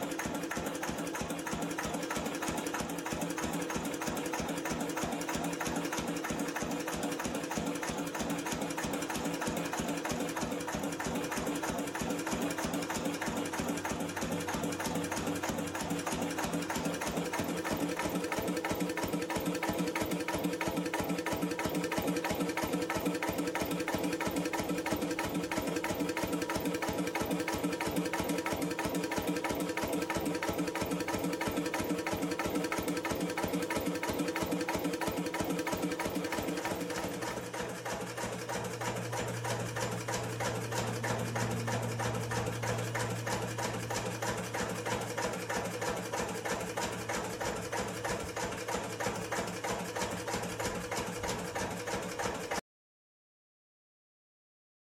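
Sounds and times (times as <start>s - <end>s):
diesel engine knocking steadily: 0.0s - 52.6s.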